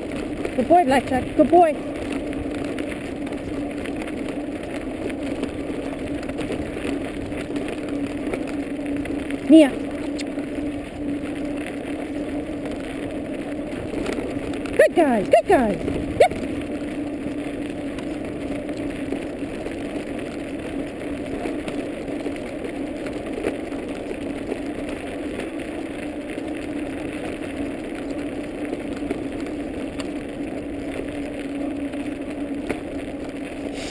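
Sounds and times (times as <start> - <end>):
wheels rolling over snowy trail: 0.0 - 33.9.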